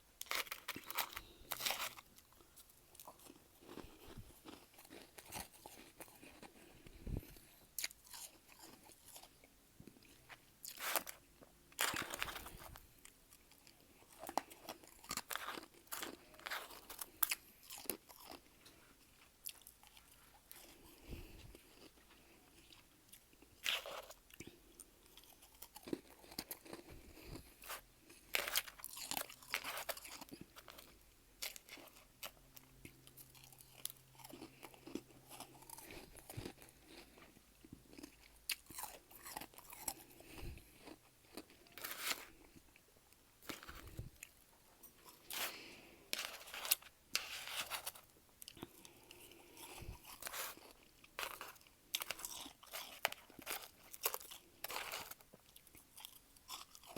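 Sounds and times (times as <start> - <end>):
chewing crunchy frost: 0.0 - 56.9.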